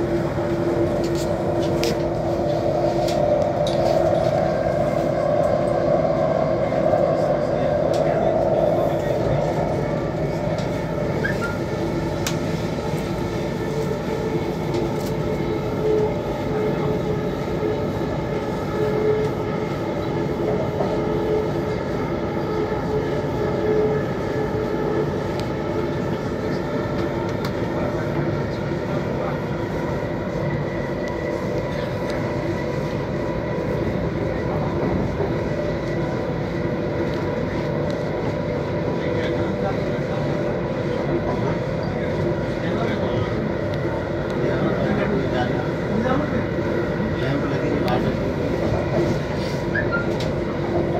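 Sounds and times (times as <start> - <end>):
constant humming tone: 0.0 - 50.9
train wheels rumbling on rail: 0.0 - 50.9.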